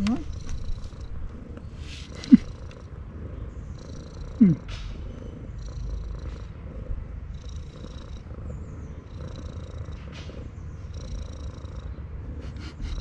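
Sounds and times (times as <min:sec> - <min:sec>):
cat purring loudly: 0:00.0 - 0:13.0.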